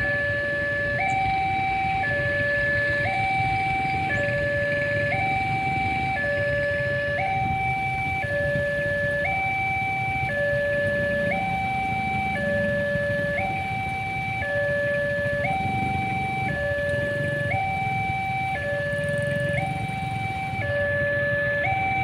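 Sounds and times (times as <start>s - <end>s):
engines idling: 0.0s - 22.0s
two-tone crossing alarm: 0.0s - 22.0s.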